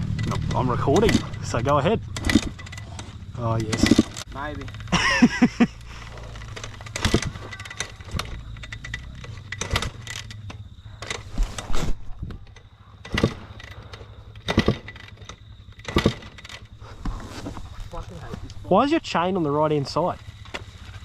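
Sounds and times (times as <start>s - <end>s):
dirt bike kickstart clanking: 0.0s - 17.7s, 20.0s - 21.0s.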